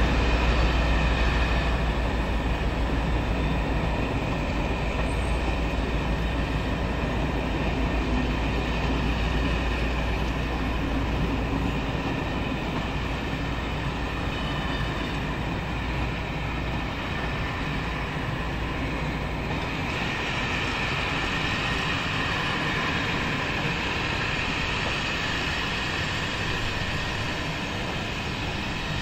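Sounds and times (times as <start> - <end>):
train running on track: 0.0 - 29.0.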